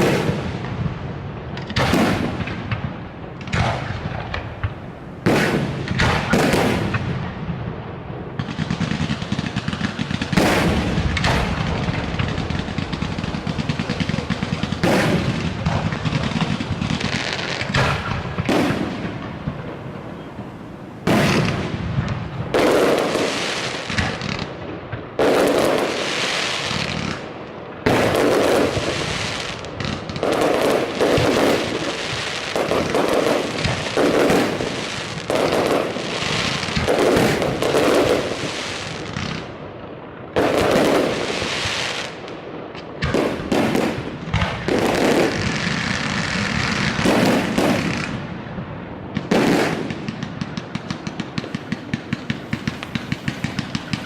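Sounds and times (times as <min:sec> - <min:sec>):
fireworks bangs with echo: 0:00.0 - 0:54.0
fireworks crackling: 0:00.0 - 0:54.0.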